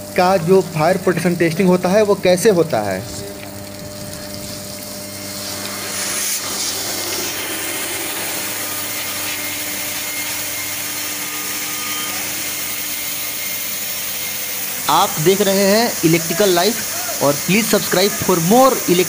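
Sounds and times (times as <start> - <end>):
water spray hissing: 0.8 - 19.0.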